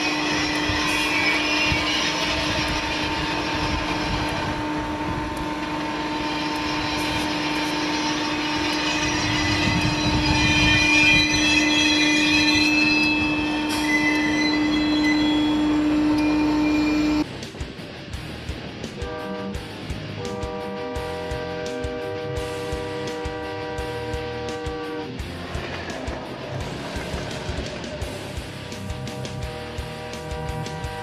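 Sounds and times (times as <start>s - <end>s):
running machinery drone: 0.0s - 31.0s.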